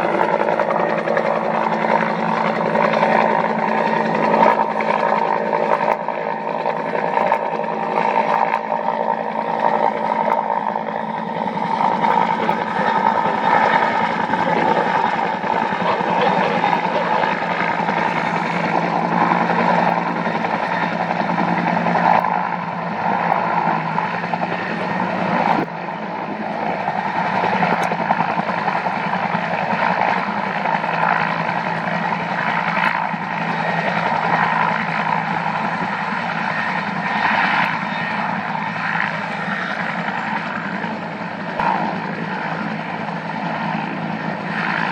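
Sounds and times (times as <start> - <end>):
aircraft turbine engines droning: 0.0 - 44.9
rotor flutter: 0.0 - 44.9.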